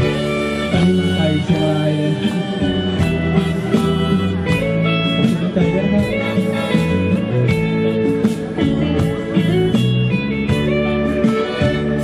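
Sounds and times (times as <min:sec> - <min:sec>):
live band music: 0:00.0 - 0:12.0.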